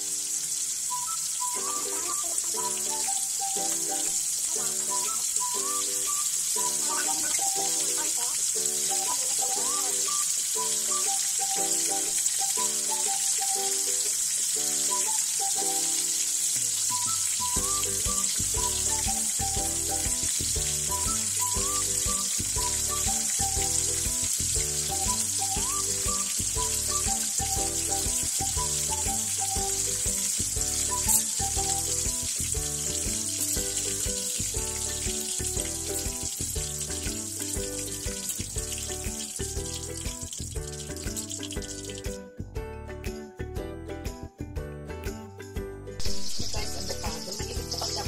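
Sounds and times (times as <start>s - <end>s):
spring rolls sizzling in oil: 0.0s - 42.2s, 46.0s - 48.0s
background music with beat: 0.9s - 16.2s, 16.9s - 48.0s.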